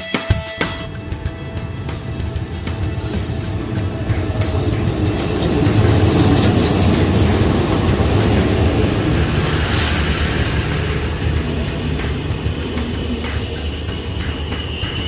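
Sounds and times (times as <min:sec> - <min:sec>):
passenger train passing: 0:00.8 - 0:15.0
train wheels rumbling on rails: 0:00.8 - 0:15.0.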